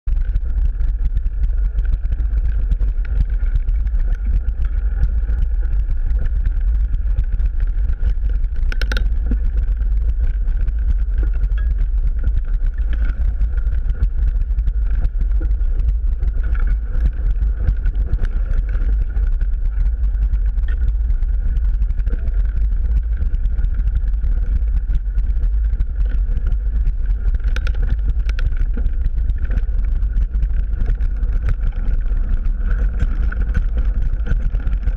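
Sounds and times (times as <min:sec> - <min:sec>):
wind and trail rumble: 0:00.0 - 0:34.9
bike clicks and rattles: 0:00.2 - 0:34.9.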